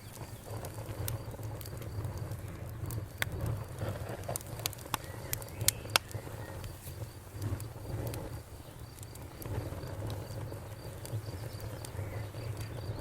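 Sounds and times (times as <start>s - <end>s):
low rumble of flames: 0.0s - 13.0s
sharp pops of fire: 0.0s - 13.0s
wood fire crackling: 0.0s - 13.0s.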